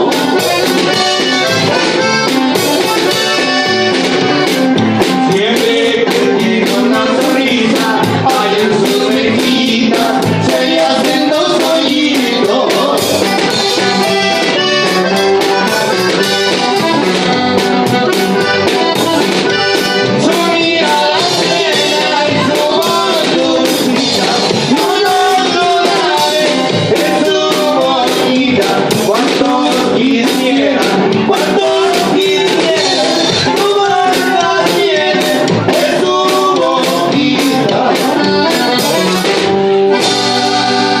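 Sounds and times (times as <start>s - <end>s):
live band playing: 0.0s - 41.0s
man singing: 0.0s - 41.0s.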